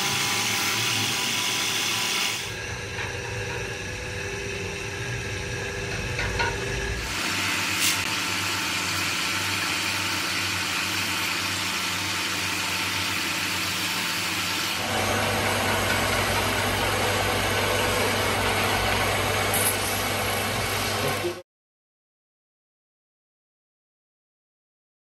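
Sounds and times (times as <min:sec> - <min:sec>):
wood lathe motor humming: 0:00.0 - 0:21.4.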